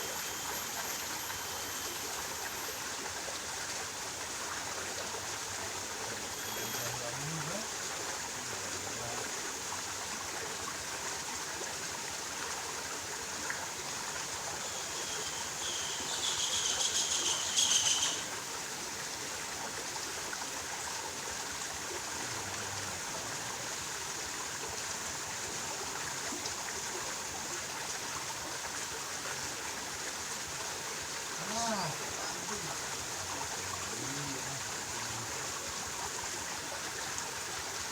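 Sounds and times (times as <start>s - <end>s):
stream flowing: 0.0s - 37.9s.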